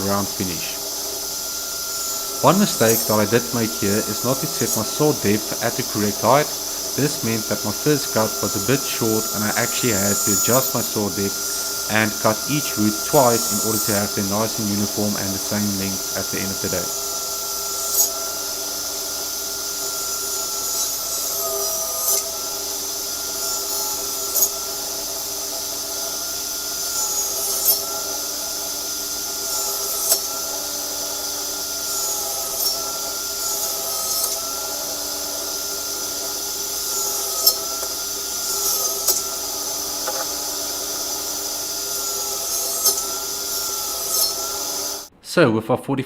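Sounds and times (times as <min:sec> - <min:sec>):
table saw cutting wood: 0:00.0 - 0:45.1.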